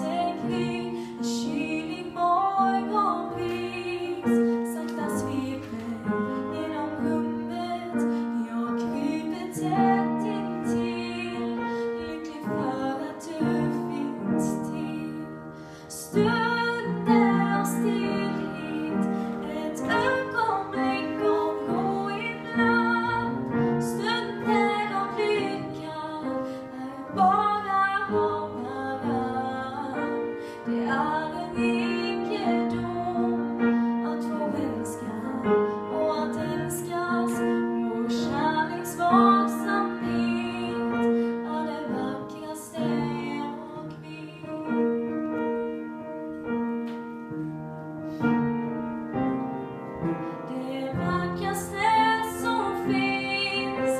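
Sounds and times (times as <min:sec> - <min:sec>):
woman singing slow song: 0:00.0 - 0:44.8, 0:50.4 - 0:53.9
upright piano: 0:00.0 - 0:53.9.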